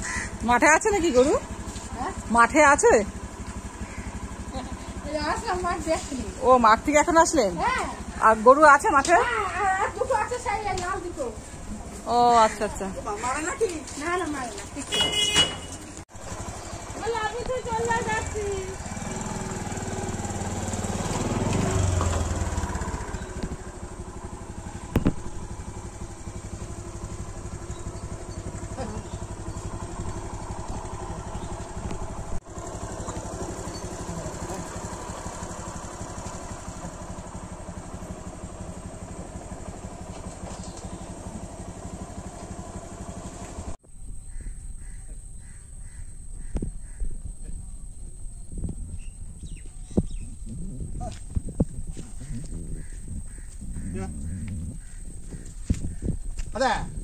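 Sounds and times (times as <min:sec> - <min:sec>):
vehicle engine drone passing: 0:00.0 - 0:57.0.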